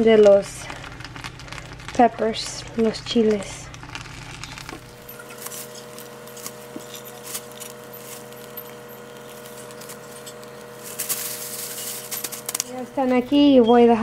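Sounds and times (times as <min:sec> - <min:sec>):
faint steady hum: 0:00.0 - 0:14.0
plastic bag rustling: 0:00.0 - 0:14.0.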